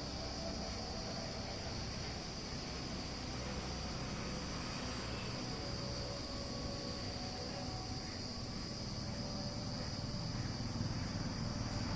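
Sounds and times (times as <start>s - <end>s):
high-pitched insect trill: 0.0s - 11.9s.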